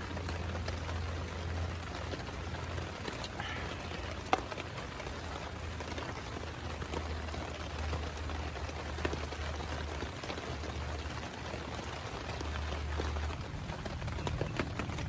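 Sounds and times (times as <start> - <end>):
heavy rain falling: 0.0 - 15.0
raindrops striking close by: 0.0 - 15.0.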